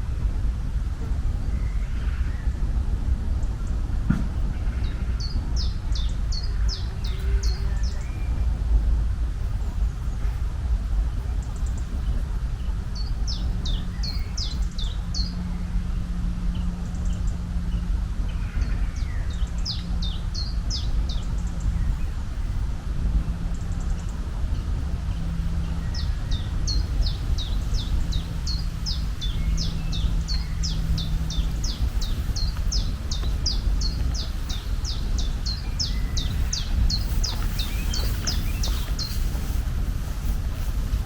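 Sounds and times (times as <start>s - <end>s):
steady low rumble: 0.0s - 41.0s
songbird singing: 1.0s - 41.0s.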